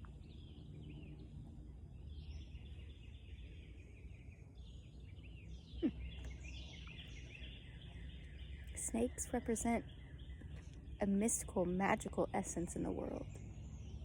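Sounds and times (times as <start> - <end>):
birds chirping: 0.0 - 14.0
low steady outdoor rumble: 0.0 - 14.0.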